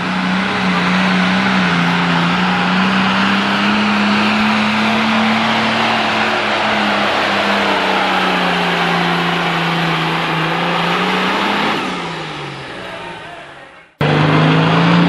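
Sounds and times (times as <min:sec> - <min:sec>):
diesel engine running hard: 0:00.0 - 0:15.0.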